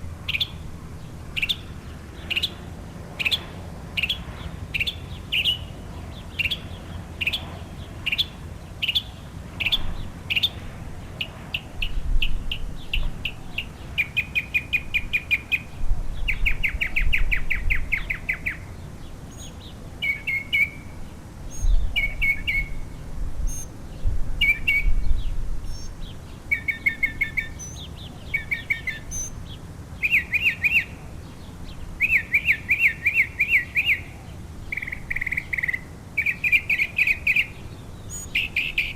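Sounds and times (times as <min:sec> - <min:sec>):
mockingbird singing: 0:00.3 - 0:00.6, 0:01.3 - 0:23.7, 0:24.4 - 0:38.9.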